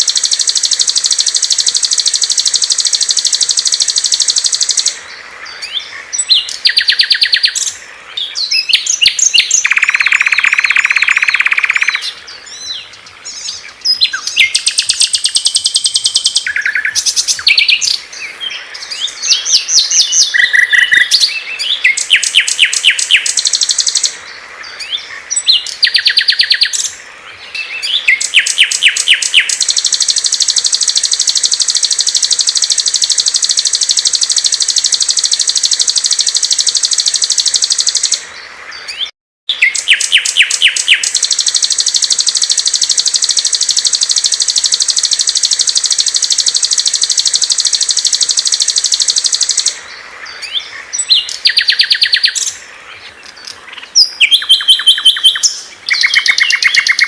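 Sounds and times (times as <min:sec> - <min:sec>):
songbirds trilling: 0:00.0 - 0:57.0.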